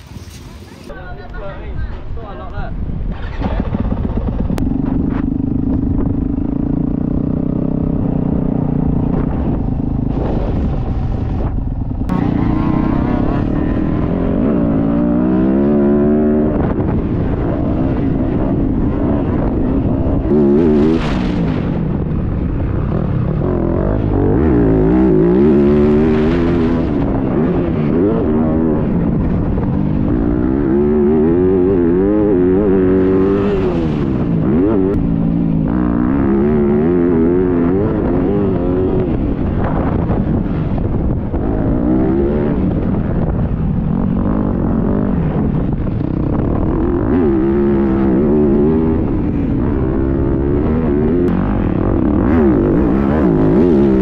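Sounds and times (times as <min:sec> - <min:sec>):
wind on microphone: 0:00.0 - 0:54.0
motocross bike engine revving: 0:03.1 - 0:54.0.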